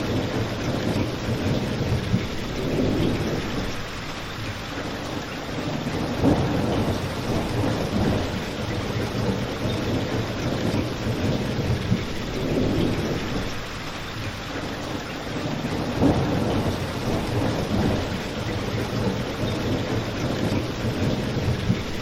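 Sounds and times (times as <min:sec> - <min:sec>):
low rumble of thunder: 0:00.0 - 0:22.0
steady rain: 0:00.0 - 0:22.0.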